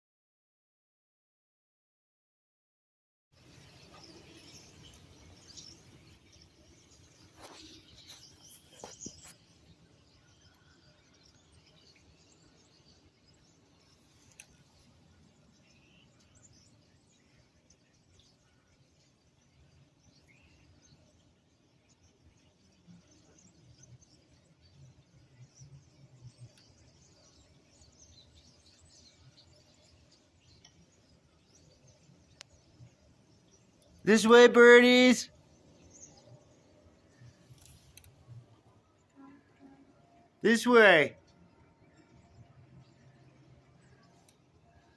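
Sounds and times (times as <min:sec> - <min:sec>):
faint bird chirps: 0:03.4 - 0:44.9
low background noise: 0:03.4 - 0:44.9.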